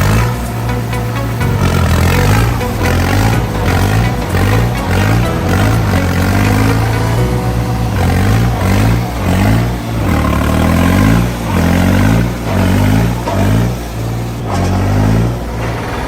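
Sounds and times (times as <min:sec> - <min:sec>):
tractor diesel engine revving: 0:00.0 - 0:16.0.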